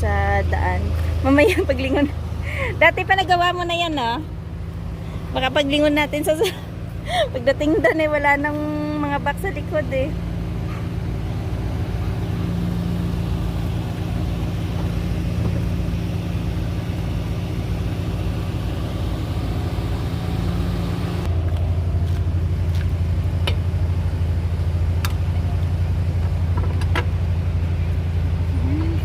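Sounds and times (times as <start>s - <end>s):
deep strong hum: 0.0s - 29.0s
vehicle engine idling: 0.0s - 29.0s.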